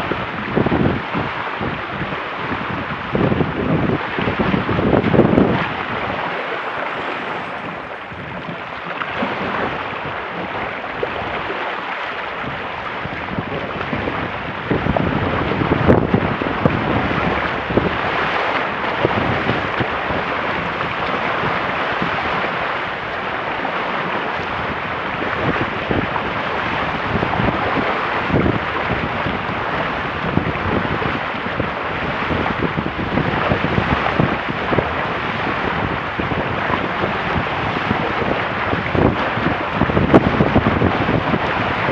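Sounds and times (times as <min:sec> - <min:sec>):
water rushing along hulls: 0:00.0 - 0:41.9
wind buffeting microphone: 0:00.0 - 0:41.9.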